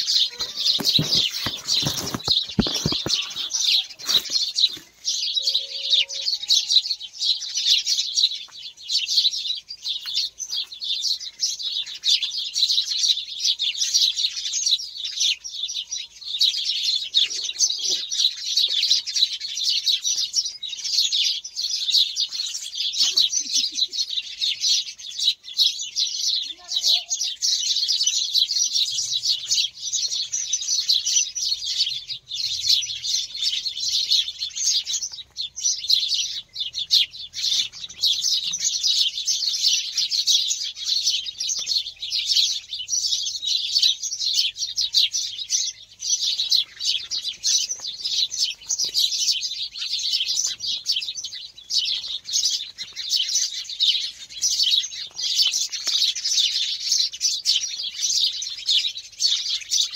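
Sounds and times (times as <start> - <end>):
chorus of small birds chirping: 0.0 - 59.9.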